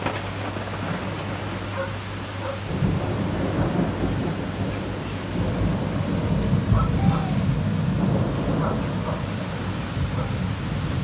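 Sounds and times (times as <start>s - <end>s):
heavy rain pouring: 0.0s - 11.0s
thunder rumbling: 0.0s - 11.0s.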